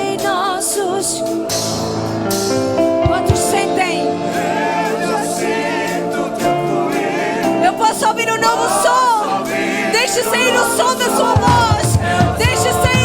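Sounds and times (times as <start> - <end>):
band playing sustained chords: 0.0 - 13.0
congregation singing: 0.0 - 13.0.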